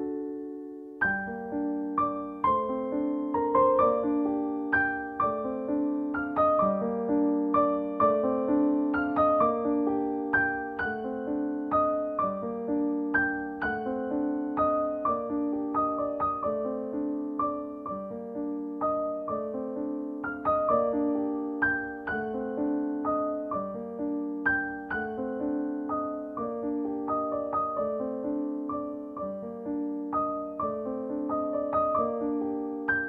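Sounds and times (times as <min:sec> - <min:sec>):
piano melody: 0:00.0 - 0:33.0.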